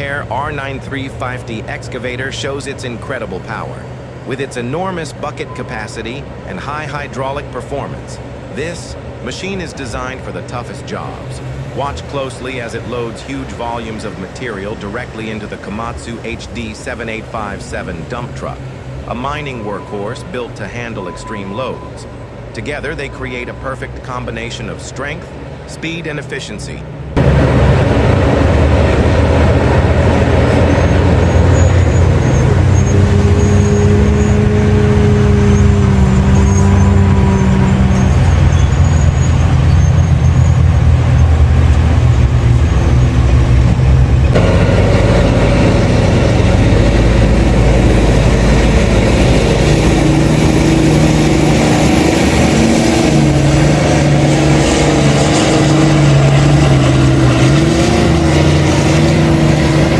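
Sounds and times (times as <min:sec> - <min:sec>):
large diesel engines running: 0:00.0 - 0:59.9.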